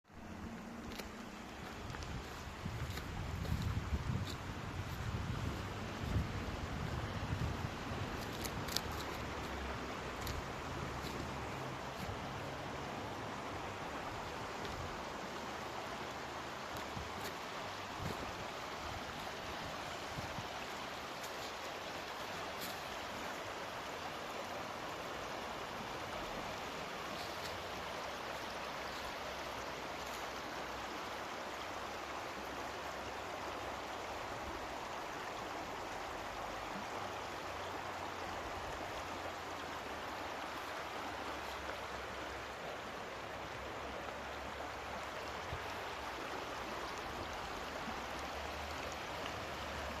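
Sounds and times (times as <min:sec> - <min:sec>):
river water flowing: 0:00.0 - 0:50.0.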